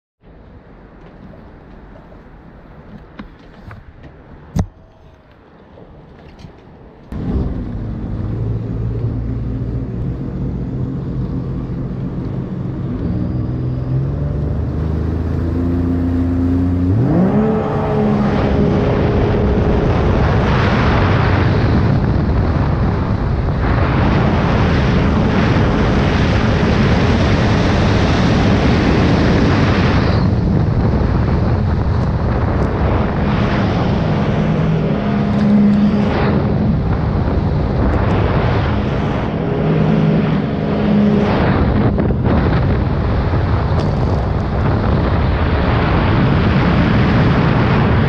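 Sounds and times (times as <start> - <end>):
rush of wind and water: 0.2 - 48.0
watercraft engine revving: 7.1 - 48.0.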